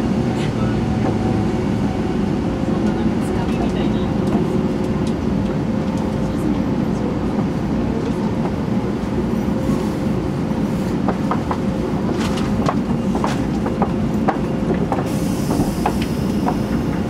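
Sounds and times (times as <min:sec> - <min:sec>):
train cabin rumble: 0:00.0 - 0:17.0.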